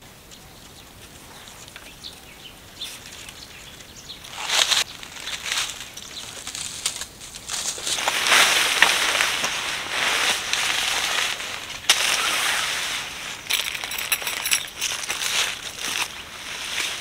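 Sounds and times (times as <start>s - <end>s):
footsteps on dry leaves and stones: 2.8s - 17.0s
tarp rustling and crackling: 2.8s - 17.0s.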